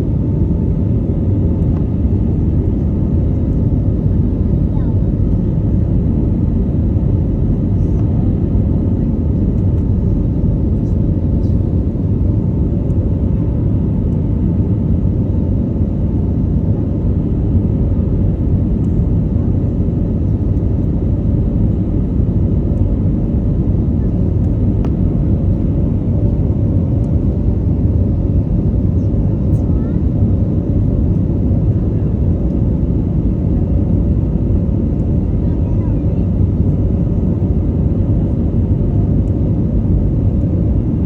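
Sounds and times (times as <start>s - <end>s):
airplane engine low rumble: 0.0s - 41.0s.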